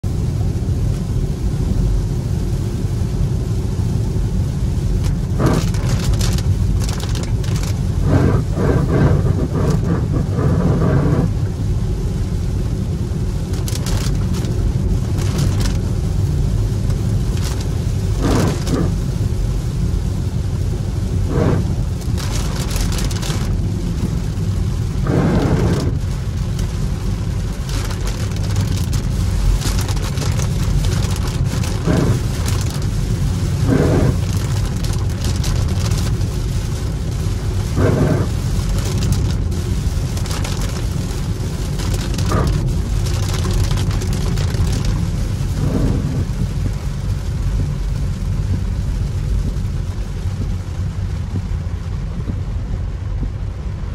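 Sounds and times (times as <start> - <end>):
rain and water spray hiss: 0.0 - 53.9
tyre and road rumble: 4.9 - 11.6, 13.4 - 16.1, 16.8 - 19.2, 21.1 - 53.9.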